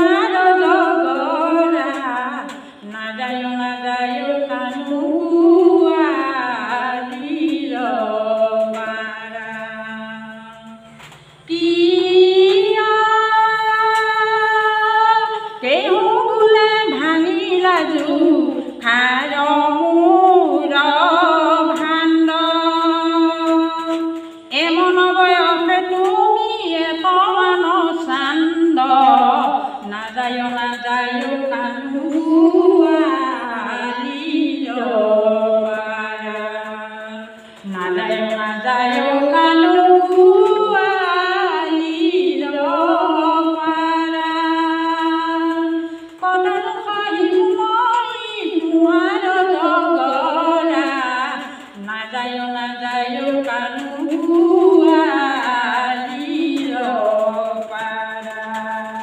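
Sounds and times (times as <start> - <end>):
woman singing into microphone: 0.0 - 59.0.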